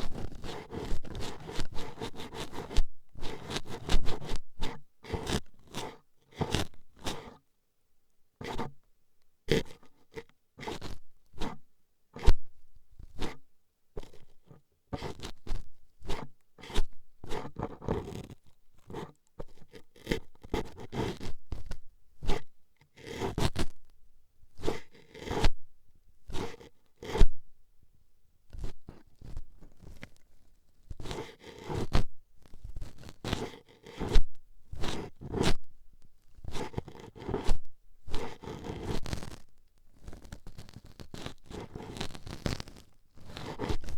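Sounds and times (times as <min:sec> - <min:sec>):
toothpick scraping microphone: 0:00.0 - 0:07.4, 0:09.5 - 0:11.6, 0:14.0 - 0:23.8, 0:24.6 - 0:25.6, 0:26.2 - 0:27.4, 0:28.5 - 0:30.3, 0:30.9 - 0:43.9.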